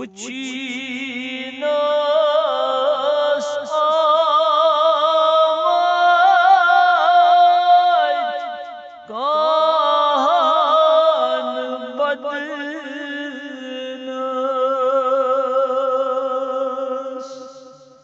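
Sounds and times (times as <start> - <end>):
man singing wordless lament: 0.0 - 17.8.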